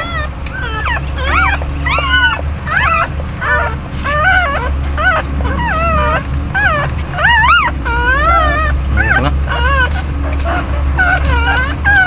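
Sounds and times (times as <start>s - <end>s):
puppies whimpering: 0.0s - 12.0s.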